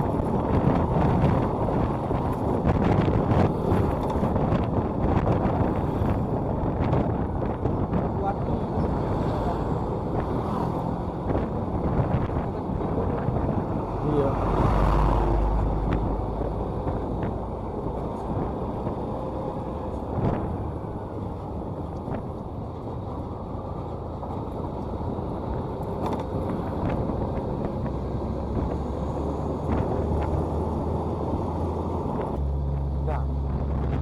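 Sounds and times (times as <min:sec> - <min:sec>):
road rumble: 0:00.0 - 0:34.0
wind noise on microphone: 0:00.0 - 0:34.0.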